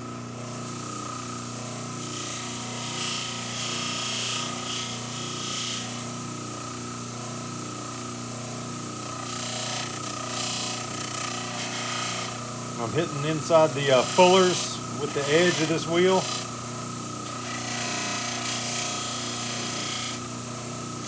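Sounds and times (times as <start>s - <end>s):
motor hum and whine: 0.0s - 21.0s.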